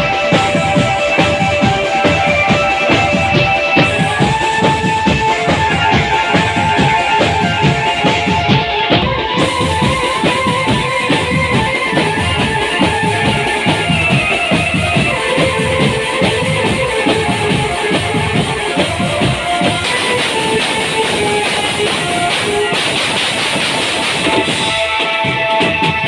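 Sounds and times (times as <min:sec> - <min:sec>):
held melody notes: 0:00.0 - 0:26.0
marching drums: 0:00.0 - 0:26.0.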